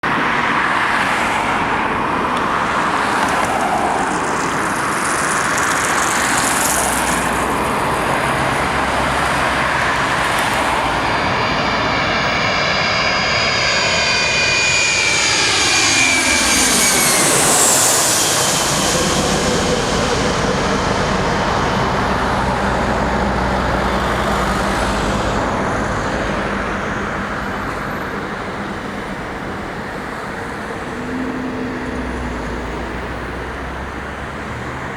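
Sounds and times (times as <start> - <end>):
jet plane passing low overhead: 0.0 - 34.9.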